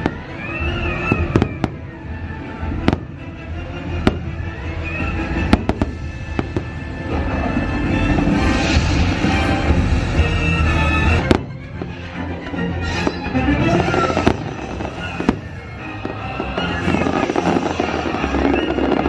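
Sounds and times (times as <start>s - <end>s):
fireworks bangs: 0.0s - 2.0s, 2.7s - 3.3s, 5.0s - 12.2s, 12.9s - 19.0s
loud show music: 0.0s - 19.0s.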